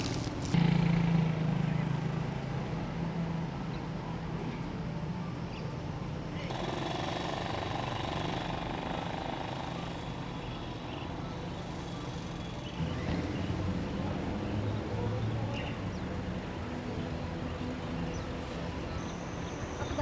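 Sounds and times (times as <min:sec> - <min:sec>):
low engine hum: 0:00.0 - 0:20.0
outdoor background noise: 0:00.0 - 0:20.0.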